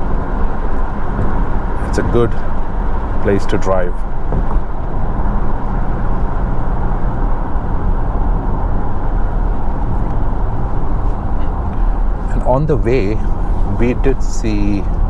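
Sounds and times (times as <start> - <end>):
car road noise from inside: 0.0 - 15.0.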